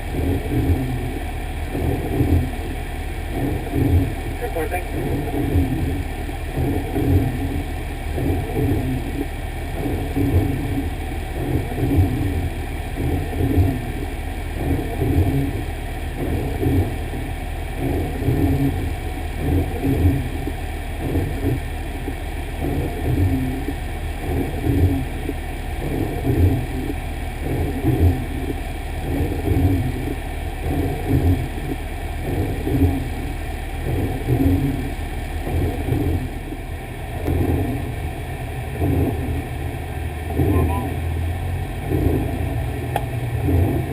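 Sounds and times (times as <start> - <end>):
fire engine rumbling: 0.0 - 43.9.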